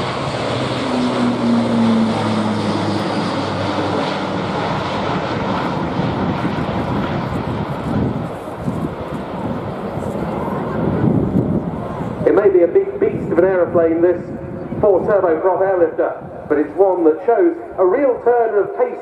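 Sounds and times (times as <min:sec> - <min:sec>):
rush of engine noise: 0:00.0 - 0:17.8
low propeller hum: 0:00.0 - 0:19.0.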